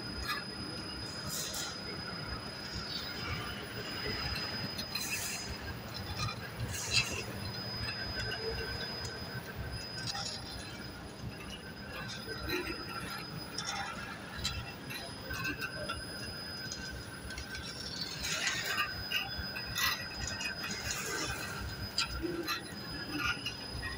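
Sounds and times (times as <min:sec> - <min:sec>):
bobbin winder whine and hum: 0:00.0 - 0:23.9
light metallic clinks and rattles: 0:02.6 - 0:23.9.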